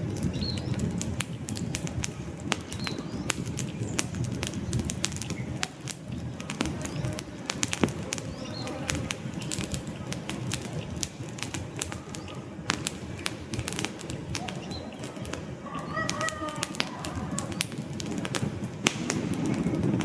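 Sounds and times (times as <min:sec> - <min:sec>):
logs popping and snapping: 0:00.0 - 0:20.0
low rumble of flames: 0:00.0 - 0:20.0
wood fire crackling: 0:00.0 - 0:20.0.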